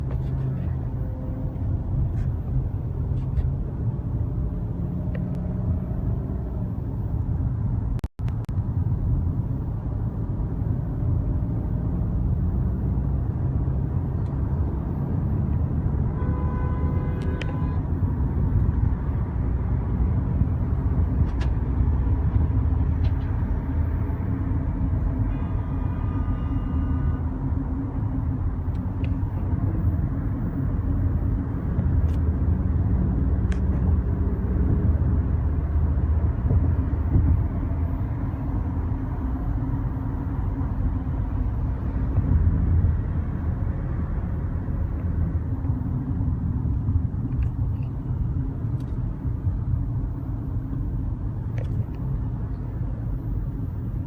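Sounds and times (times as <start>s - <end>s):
moving car rumble: 0.0s - 54.0s.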